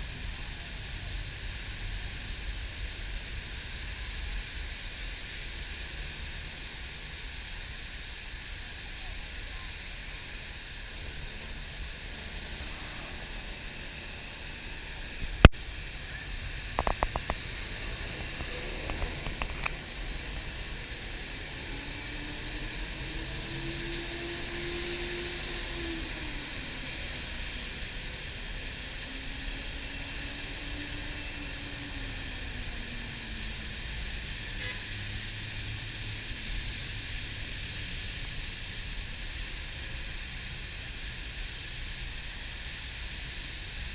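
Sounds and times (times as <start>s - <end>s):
bus tyres rushing on wet road: 0.0s - 43.9s
low engine tone: 0.0s - 43.9s.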